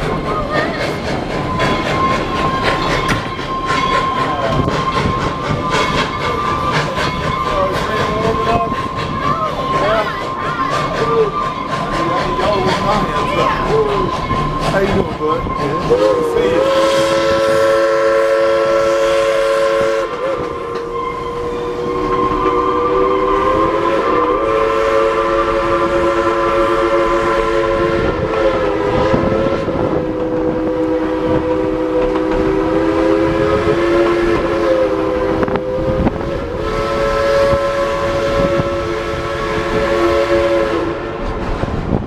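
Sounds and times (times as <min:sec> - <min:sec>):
train rumbling on rails: 0:00.0 - 0:42.0
steam locomotive chime whistle: 0:01.4 - 0:14.6, 0:15.4 - 0:41.2.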